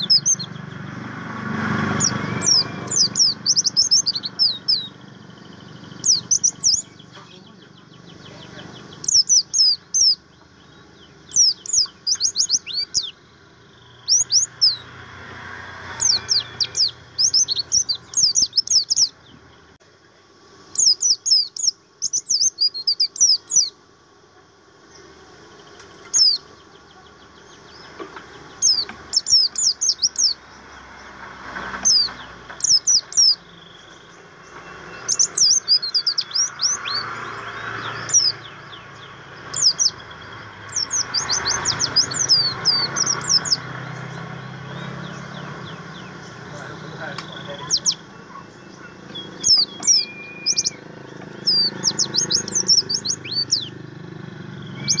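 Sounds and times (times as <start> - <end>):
bird singing high chirps: 0.0 - 19.9, 20.6 - 23.8, 24.8 - 55.0.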